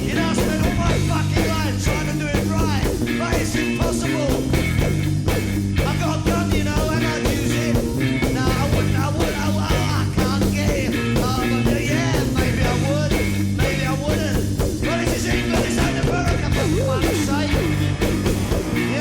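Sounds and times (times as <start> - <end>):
person singing: 0.0 - 5.0, 5.8 - 19.0
steady drum beat: 0.0 - 19.0
sustained bass: 0.0 - 19.0.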